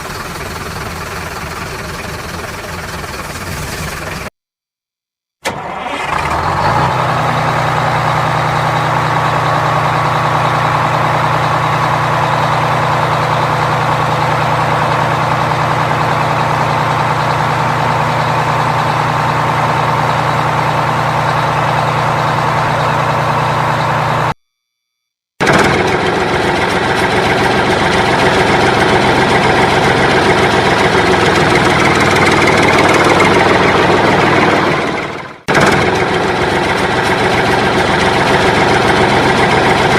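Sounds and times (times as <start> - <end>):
engine idling: 0.0 - 4.3, 5.4 - 24.4, 25.4 - 39.9.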